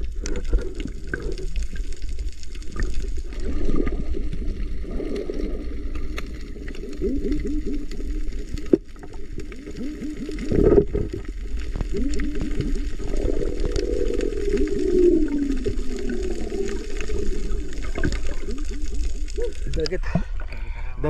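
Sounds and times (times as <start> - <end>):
rush of water: 0.0 - 20.0
underwater gurgling bubbles: 0.0 - 20.8.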